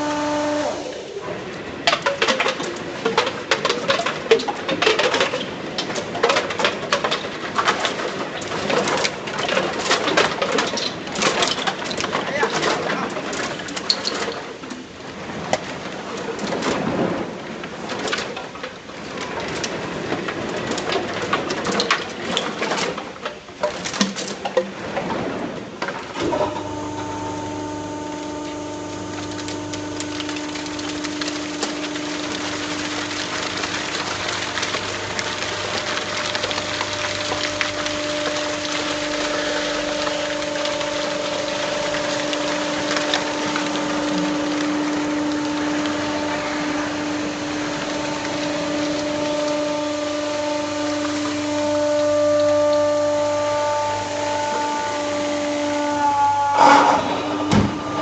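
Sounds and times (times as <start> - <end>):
hydraulic power unit humming: 0.0 - 15.4, 25.2 - 58.0
plastic bottles crackling in baler: 0.0 - 58.0.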